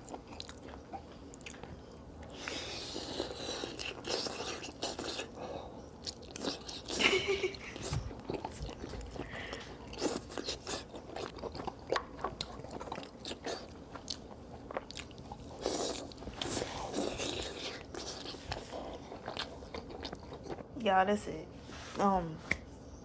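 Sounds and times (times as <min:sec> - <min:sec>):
person chewing cheese: 0:00.0 - 0:20.8.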